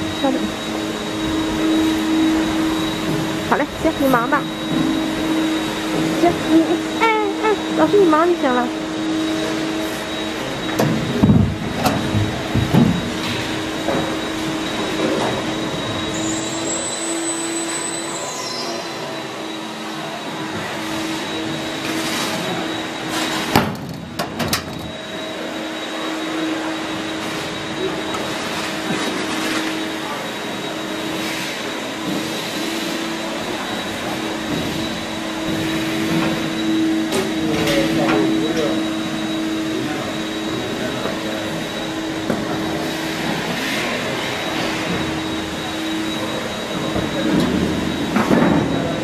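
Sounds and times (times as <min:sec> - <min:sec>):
machinery humming: 0:00.0 - 0:49.0.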